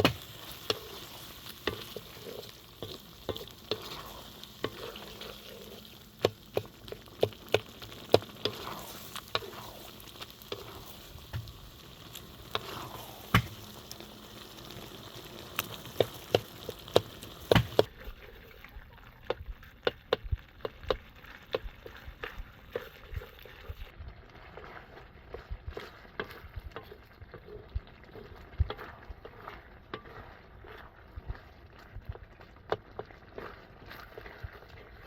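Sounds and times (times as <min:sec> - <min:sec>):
utensil scraping and knocking in pot: 0:00.0 - 0:18.5, 0:19.3 - 0:35.0
faint sizzle of frying: 0:00.0 - 0:35.0.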